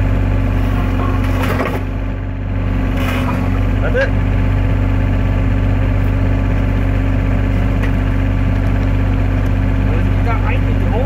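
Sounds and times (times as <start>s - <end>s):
mini excavator engine idling: 0.0s - 11.0s.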